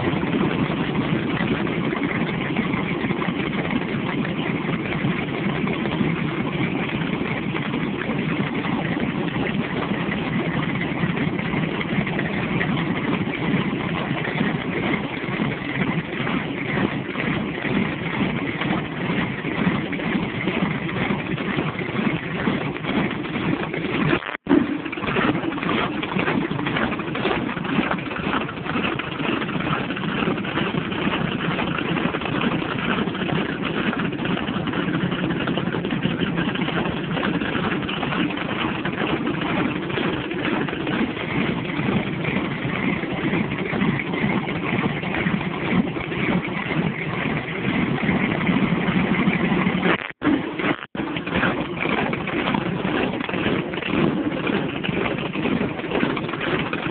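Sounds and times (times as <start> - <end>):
car engine idling loudly: 0.0 - 56.9.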